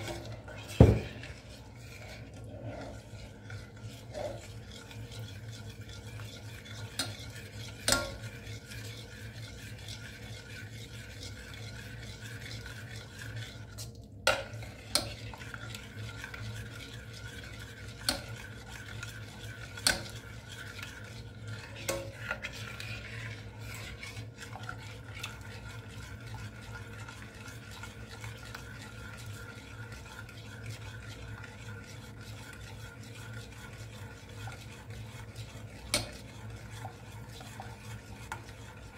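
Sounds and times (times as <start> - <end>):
spoon stirring in a saucepan: 0.0 - 38.9.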